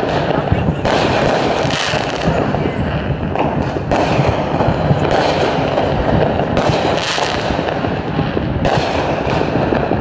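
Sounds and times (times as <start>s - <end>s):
fireworks crackling and popping: 0.0s - 10.0s
sharp firework bursts: 0.0s - 10.0s.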